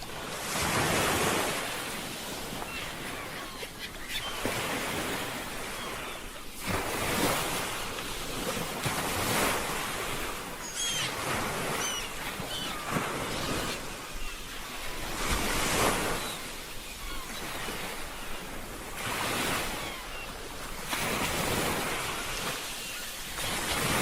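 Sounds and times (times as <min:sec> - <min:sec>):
ocean surf washing onto shore: 0:00.0 - 0:24.0.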